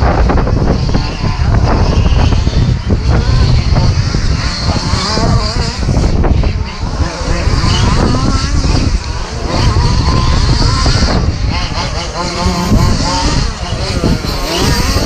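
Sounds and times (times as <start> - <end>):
rc truck motors revving: 0.0 - 15.0
wind rumble on microphone: 0.0 - 15.0.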